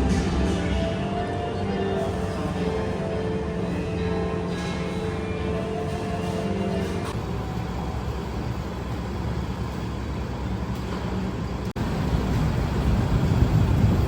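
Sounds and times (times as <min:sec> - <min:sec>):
low rumble of street traffic: 0:00.0 - 0:14.0.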